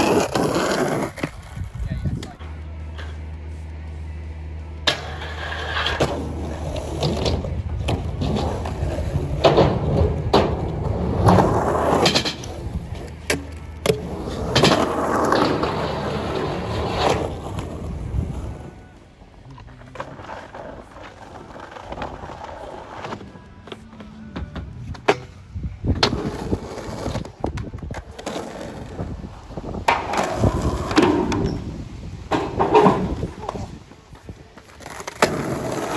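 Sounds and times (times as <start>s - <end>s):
skateboard wheels on rough pavement: 0.0s - 35.9s.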